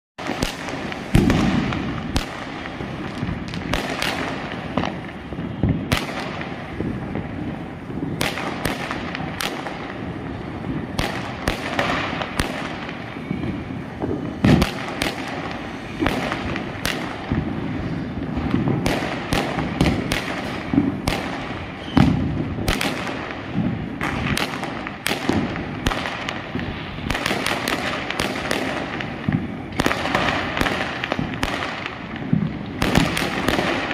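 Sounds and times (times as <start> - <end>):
firecrackers and fireworks bangs: 0.2 - 33.9.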